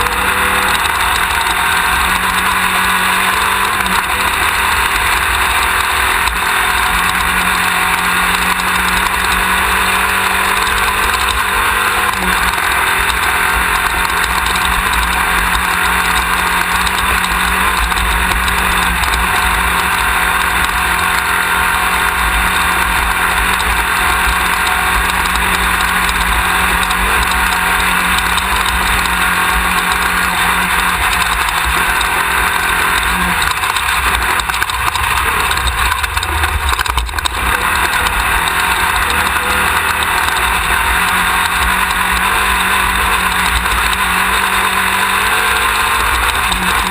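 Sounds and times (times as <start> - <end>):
buggy engine running hard: 0.0 - 46.9
road and wind noise: 0.0 - 46.9.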